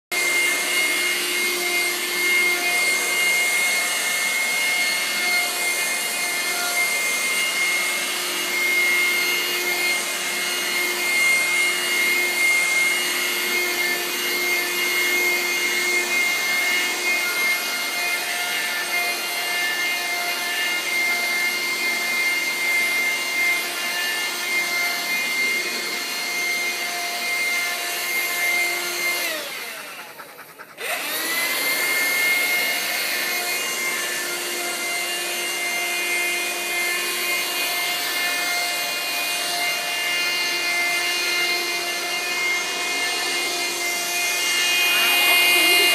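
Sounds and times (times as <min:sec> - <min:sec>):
vacuum cleaner running with whine: 0:00.1 - 0:45.9.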